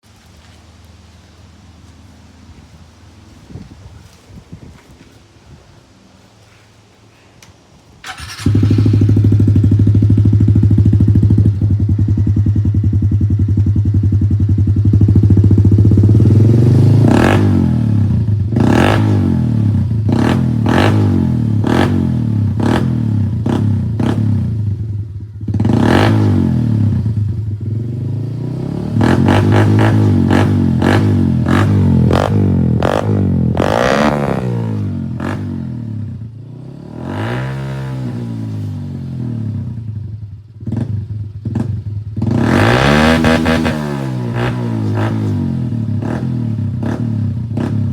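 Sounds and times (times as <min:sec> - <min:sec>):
motorcycle engine idling and revving: 0:08.0 - 0:47.9.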